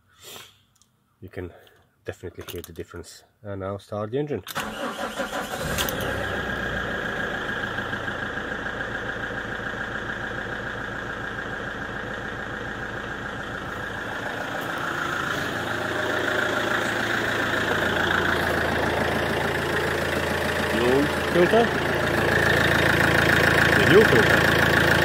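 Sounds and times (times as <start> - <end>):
diesel engine idling: 4.6 - 25.0.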